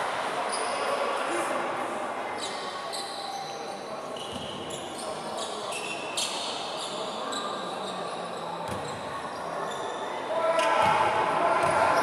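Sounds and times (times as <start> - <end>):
faint voices: 0.0 - 12.0
sneaker squeaks: 0.5 - 1.0, 2.4 - 12.0.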